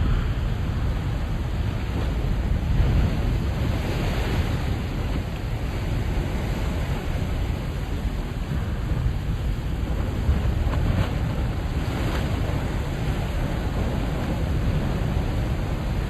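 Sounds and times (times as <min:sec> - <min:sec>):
ocean waves rushing: 0:00.0 - 0:16.0.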